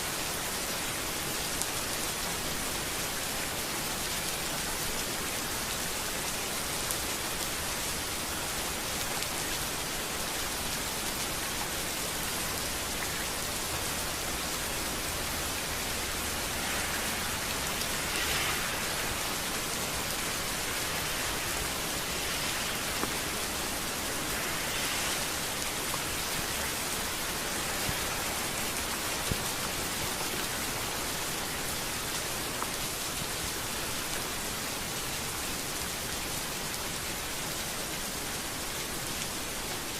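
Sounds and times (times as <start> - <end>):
rain falling on a street: 0.0 - 39.9.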